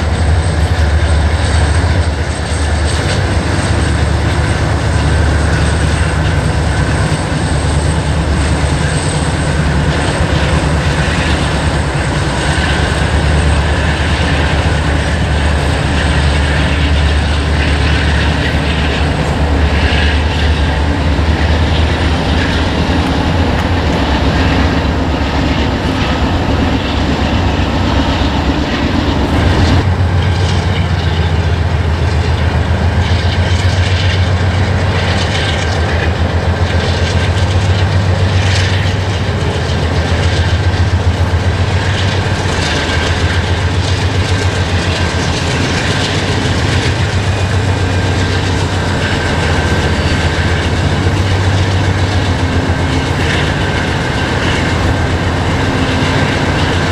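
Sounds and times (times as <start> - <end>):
freight train rumbling: 0.0 - 56.9.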